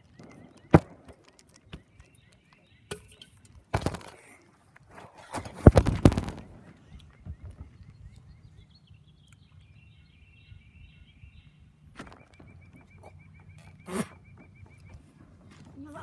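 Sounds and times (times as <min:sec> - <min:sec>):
small bird chirping: 0:00.0 - 0:03.5, 0:05.8 - 0:16.0.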